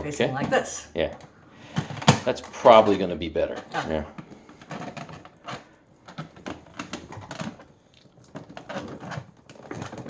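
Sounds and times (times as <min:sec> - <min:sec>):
plastic vacuum parts clicking: 0:00.4 - 0:10.0.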